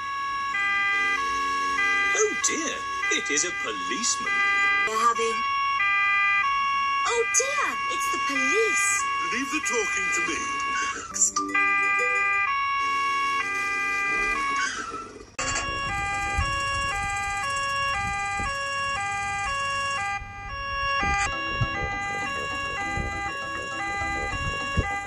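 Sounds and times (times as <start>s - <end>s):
two-tone cartoon siren: 0.0s - 25.0s.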